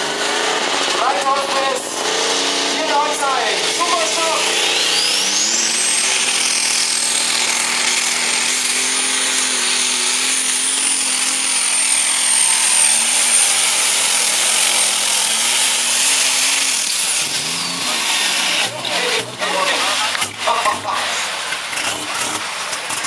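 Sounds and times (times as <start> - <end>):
diesel tractor engine at full power: 0.0 - 23.0.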